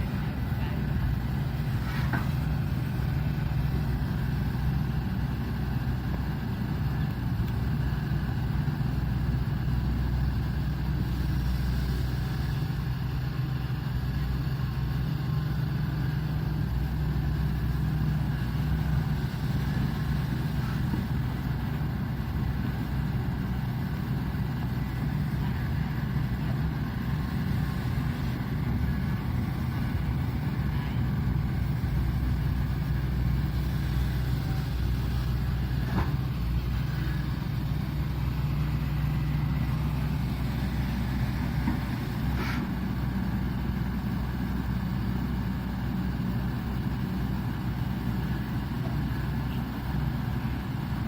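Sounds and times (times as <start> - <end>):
excavator diesel engine droning: 0.0 - 51.0.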